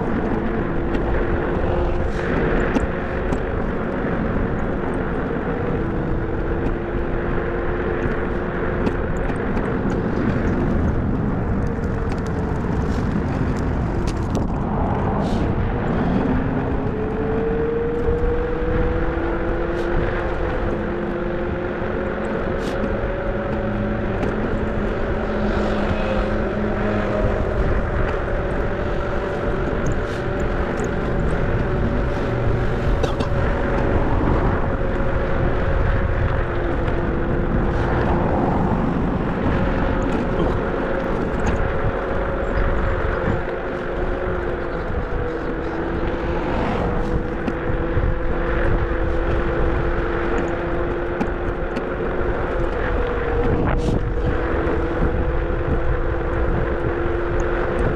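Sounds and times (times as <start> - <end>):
car engine hum: 0.0 - 57.9
road rumble: 0.0 - 57.9.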